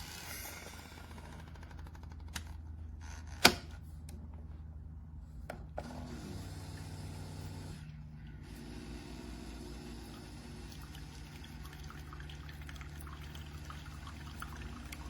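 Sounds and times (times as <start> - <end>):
coffee maker pump humming: 0.0 - 3.0, 5.5 - 15.0.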